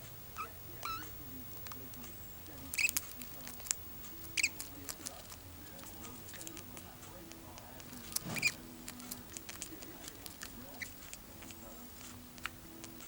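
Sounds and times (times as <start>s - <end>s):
budgerigars chirping: 0.1s - 7.0s, 9.3s - 13.0s
small clicks and scratches: 0.8s - 13.0s.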